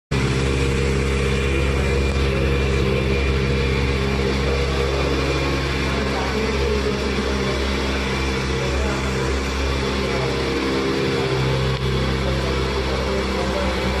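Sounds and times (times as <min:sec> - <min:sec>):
motorcycle engine idling: 0:00.2 - 0:14.0.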